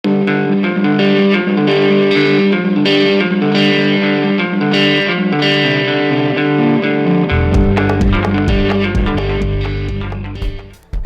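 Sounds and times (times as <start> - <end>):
distorted electric guitar chords: 0.0 - 11.0.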